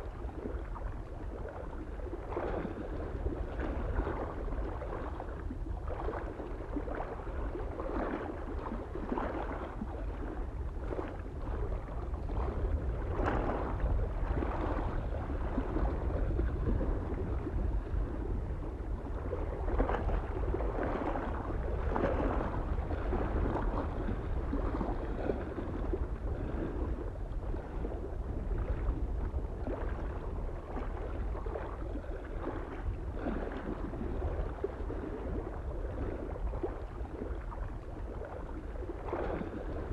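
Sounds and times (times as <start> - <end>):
low wind rumble: 0.0 - 39.9
small waves lapping at shore: 0.0 - 39.9.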